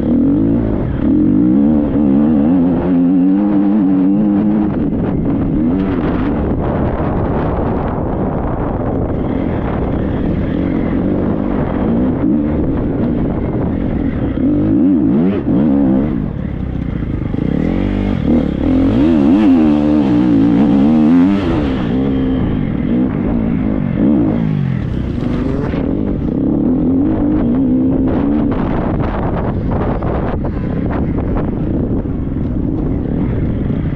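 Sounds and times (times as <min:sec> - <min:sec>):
motorcycle engine revving: 0:00.0 - 0:33.9
wind buffeting microphone: 0:00.0 - 0:33.9.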